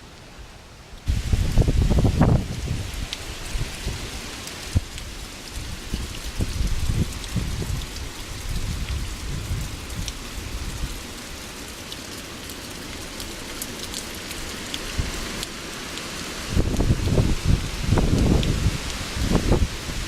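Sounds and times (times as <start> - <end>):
heavy rain hissing: 0.0 - 20.0
raindrops clicking close by: 1.0 - 20.0.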